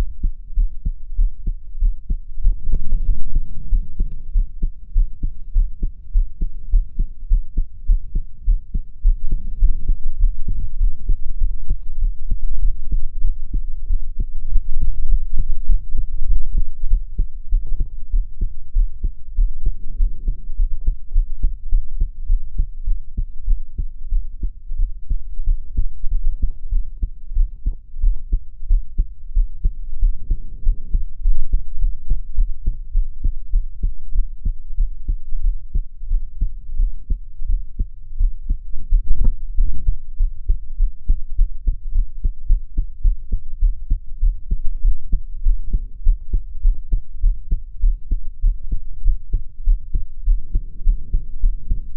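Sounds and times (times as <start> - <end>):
heartbeat thumps: 0.0 - 51.9.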